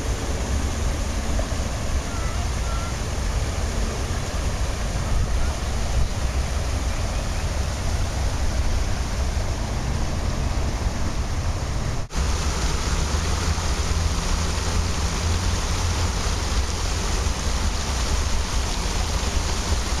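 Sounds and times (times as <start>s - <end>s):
waterfall rushing into pond: 0.0s - 20.0s
wind rumble on microphone: 0.0s - 20.0s.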